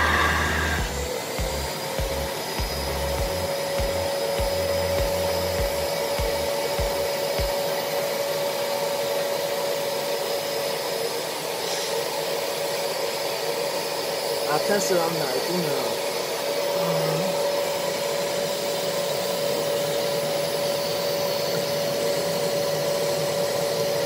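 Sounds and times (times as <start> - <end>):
vacuum cleaner motor whine and suction: 0.0 - 24.0.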